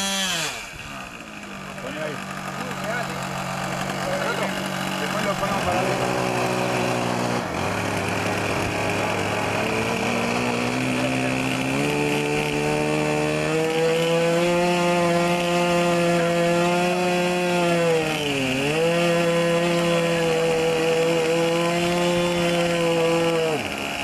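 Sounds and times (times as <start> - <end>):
model aircraft engine buzzing: 0.0 - 24.0.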